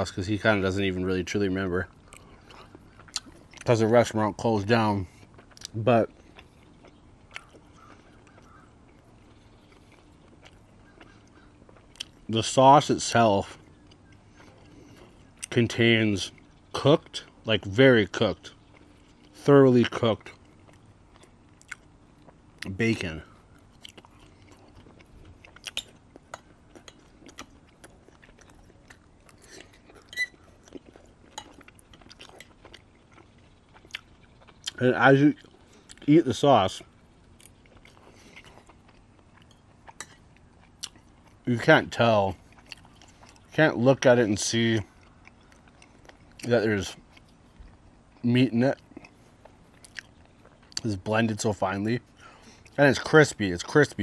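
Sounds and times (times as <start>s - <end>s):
faint chewing: 0.4s - 54.0s.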